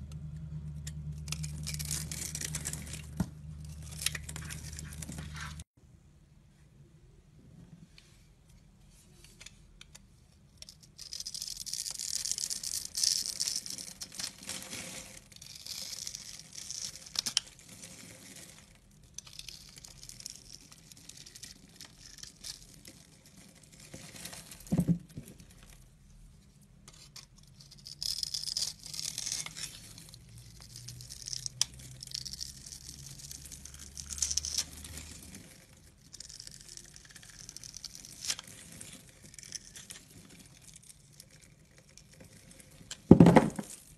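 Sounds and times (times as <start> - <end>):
soap cubes crackling and crumbling: 1.2 - 5.6, 10.5 - 25.9, 27.0 - 43.9.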